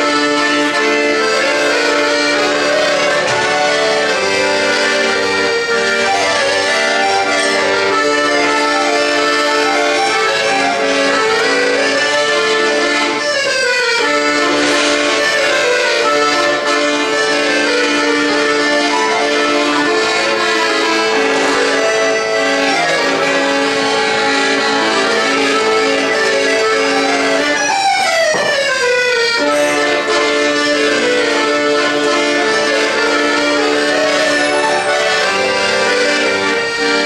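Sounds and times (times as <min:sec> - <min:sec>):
piano accordion playing melody: 0:00.0 - 0:37.0.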